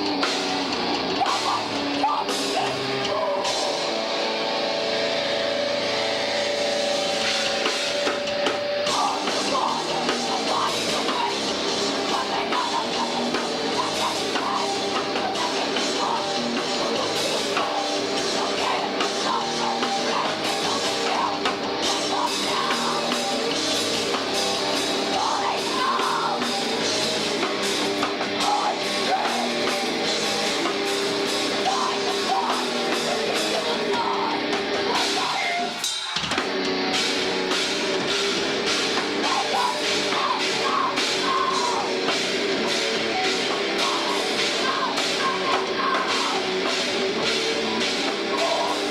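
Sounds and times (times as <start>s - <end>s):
drum kit: 0.0s - 48.9s
rock band playing live: 0.0s - 48.9s.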